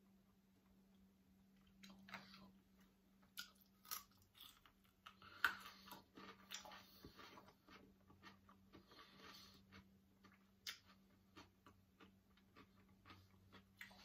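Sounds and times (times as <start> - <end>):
person chewing food: 1.5 - 14.0.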